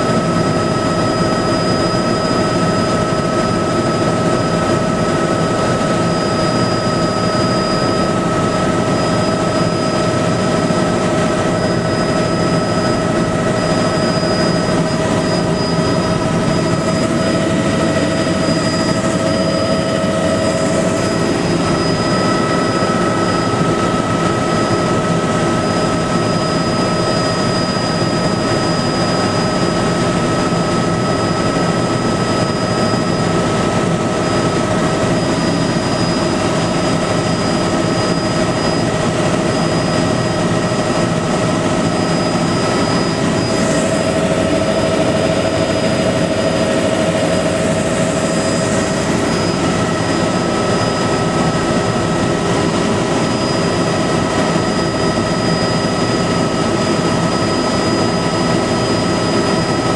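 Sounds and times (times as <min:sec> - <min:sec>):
helicopter cabin drone: 0:00.0 - 0:59.9
steady whining tones: 0:00.0 - 0:59.9.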